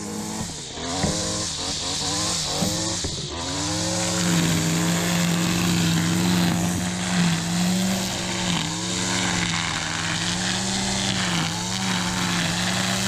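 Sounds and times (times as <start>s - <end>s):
string trimmer engine revving: 0.0s - 13.0s
trimmer line cutting grass: 0.0s - 13.0s.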